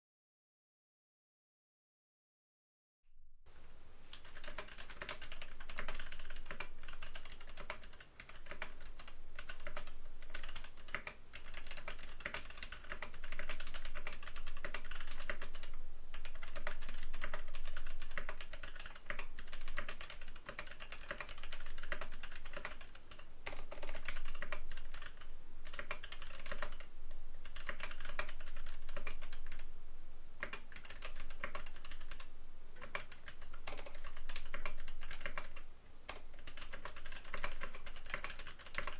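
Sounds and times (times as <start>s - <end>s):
mechanical keyboard typing: 4.1s - 29.6s, 30.4s - 38.9s.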